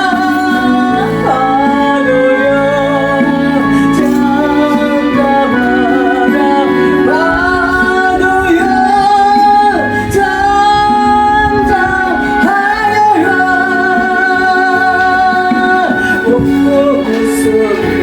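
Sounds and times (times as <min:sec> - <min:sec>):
person singing: 0:00.0 - 0:18.0
sustained instrumental accompaniment: 0:00.0 - 0:18.0.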